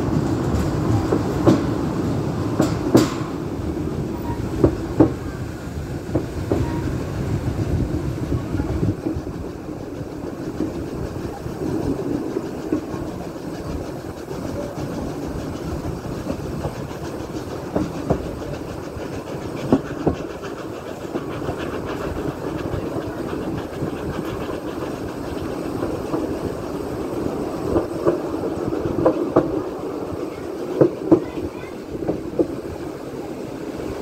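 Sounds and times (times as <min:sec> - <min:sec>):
wheels clacking over rail joints: 0:00.0 - 0:33.2
train wheels rumbling on track: 0:00.0 - 0:34.0.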